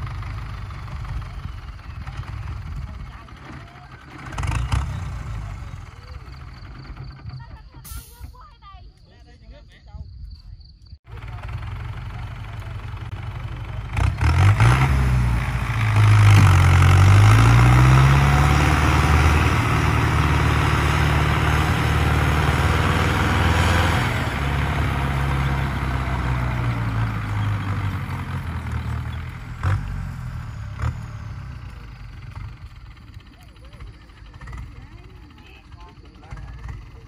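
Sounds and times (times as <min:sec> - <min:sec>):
tractor diesel engine revving: 0:00.0 - 0:08.3, 0:11.1 - 0:37.0.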